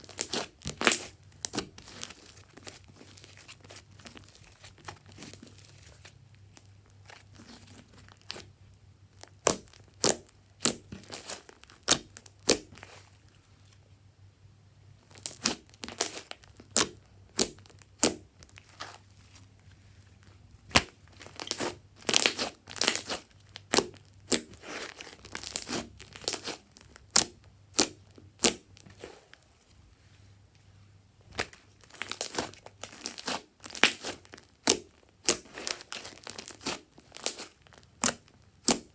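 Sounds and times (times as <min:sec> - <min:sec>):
slime crackling and popping: 0:00.0 - 0:08.4, 0:09.2 - 0:13.0, 0:15.1 - 0:19.0, 0:20.6 - 0:29.0, 0:31.3 - 0:38.9.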